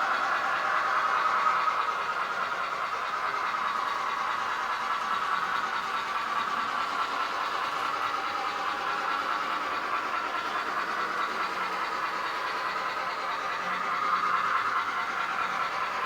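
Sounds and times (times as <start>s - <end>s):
tinny steam engine sound: 0.0s - 16.0s.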